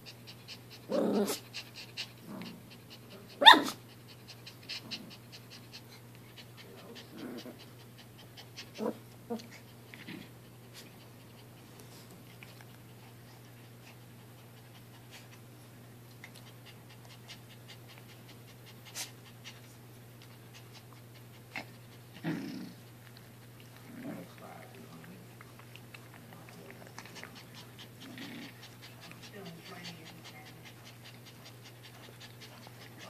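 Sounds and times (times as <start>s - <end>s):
soft puppy noises: 0.0s - 33.0s
steady low hum: 0.0s - 33.0s.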